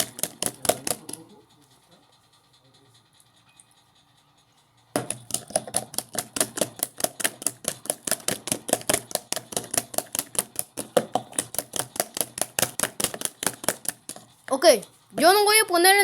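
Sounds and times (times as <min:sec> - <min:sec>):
rapid even clicking: 0:00.0 - 0:03.4, 0:04.9 - 0:16.0.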